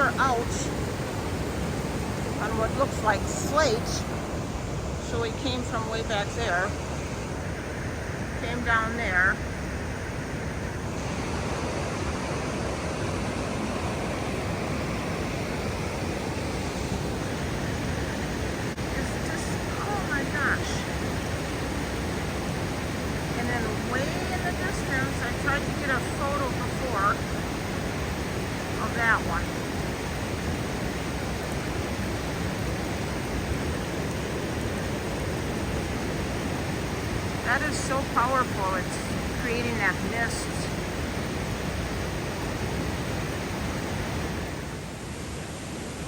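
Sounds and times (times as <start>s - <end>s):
waterfall roar: 0.0s - 46.0s.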